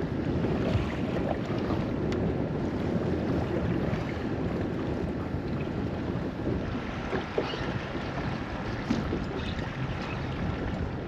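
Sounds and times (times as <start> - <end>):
choppy water against boat hull: 0.0 - 11.0
wind buffeting microphone: 0.0 - 11.0.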